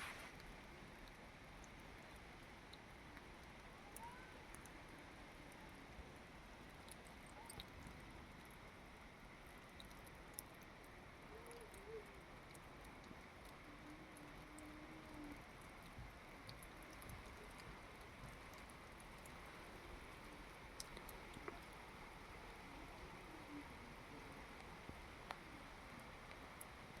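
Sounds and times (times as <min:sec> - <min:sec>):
faint steady rain: 0:00.0 - 0:27.0
rain drop ticks: 0:00.1 - 0:27.0.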